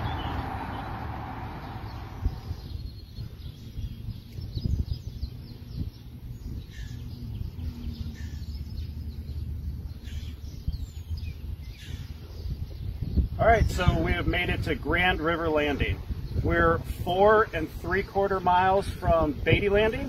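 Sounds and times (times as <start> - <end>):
low background rumble: 0.0 - 20.0
songbirds chirping: 0.0 - 20.0.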